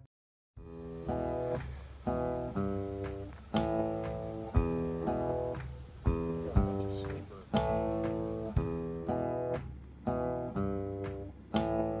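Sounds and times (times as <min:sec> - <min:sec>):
guitar strumming chords: 0:00.6 - 0:12.0.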